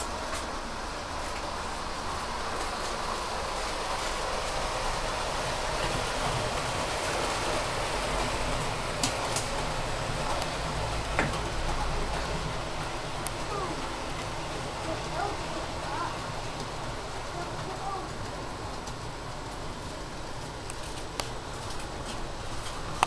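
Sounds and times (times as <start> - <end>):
model train running: 0.0 - 23.0.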